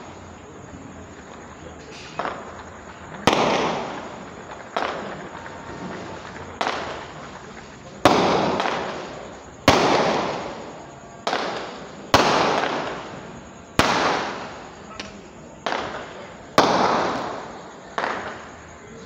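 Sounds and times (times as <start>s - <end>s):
fireworks bangs echoing: 0.0s - 19.0s.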